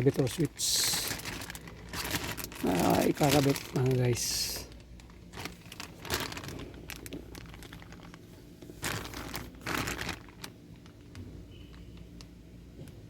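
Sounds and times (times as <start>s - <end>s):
packaging crinkling: 0.0s - 12.3s.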